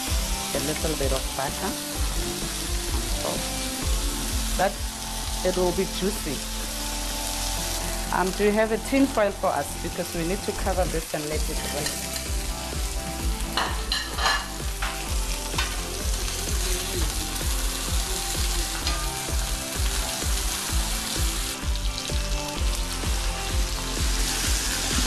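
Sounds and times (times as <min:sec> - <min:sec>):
steak sizzling in a pan: 0:00.0 - 0:25.0.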